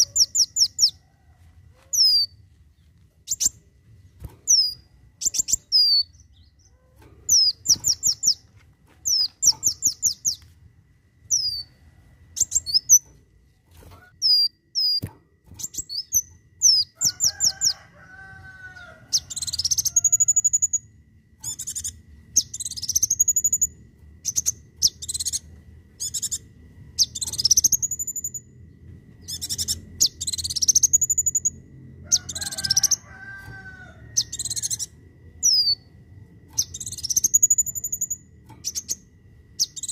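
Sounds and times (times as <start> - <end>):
bird chirps and trills: 0.0 - 1.0, 1.9 - 10.4, 11.3 - 13.2, 13.8 - 35.9, 36.5 - 39.9
faint low hum: 0.0 - 39.9.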